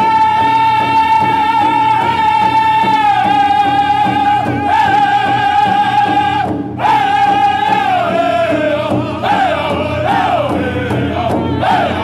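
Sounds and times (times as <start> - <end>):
large drum beating: 0.0 - 12.0
men singing high in unison: 0.0 - 12.0.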